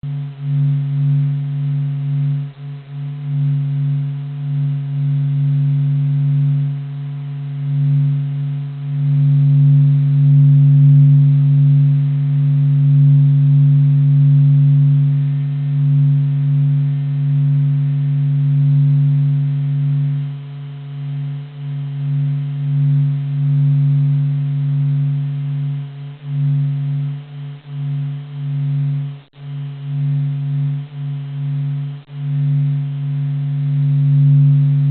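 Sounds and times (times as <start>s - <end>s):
deep steady hum of low tones: 0.0s - 34.9s.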